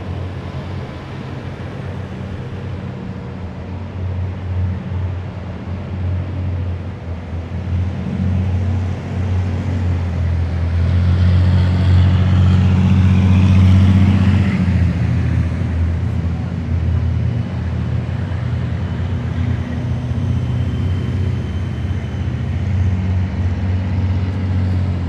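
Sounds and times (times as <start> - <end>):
heavy vehicles diesel engines rumbling: 0.0 - 25.0
road noise: 0.0 - 25.0.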